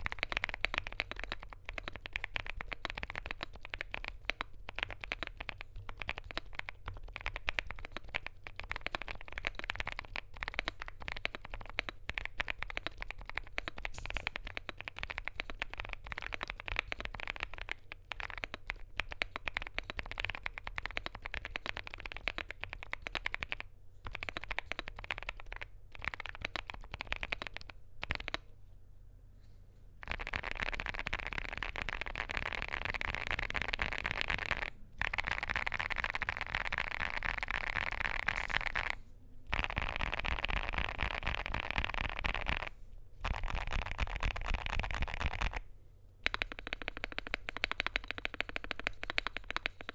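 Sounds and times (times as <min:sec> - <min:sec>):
mechanical keyboard typing: 0:00.0 - 0:28.4, 0:30.0 - 0:45.6, 0:46.2 - 0:49.9.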